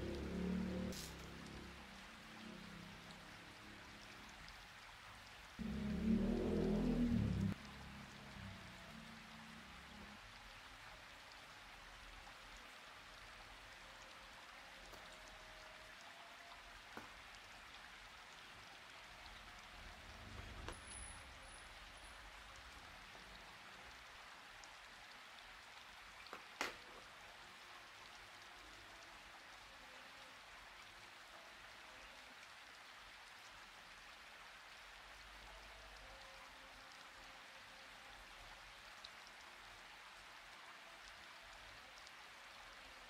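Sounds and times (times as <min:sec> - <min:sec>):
faint steady hiss: 0:00.0 - 0:43.0.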